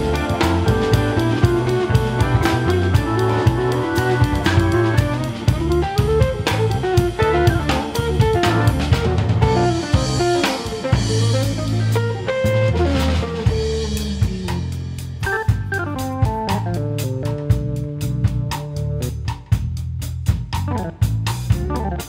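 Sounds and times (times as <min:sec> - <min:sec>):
organ: 0:00.0 - 0:19.1, 0:20.7 - 0:22.0
electric guitar: 0:00.0 - 0:19.2, 0:20.7 - 0:22.0
bass: 0:00.0 - 0:22.0
drum kit beat: 0:00.0 - 0:22.0.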